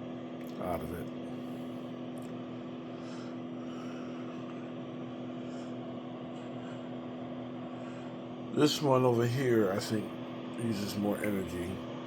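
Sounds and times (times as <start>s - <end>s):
electric heater fans whirring: 0.0s - 12.0s
power station humming: 0.0s - 12.0s.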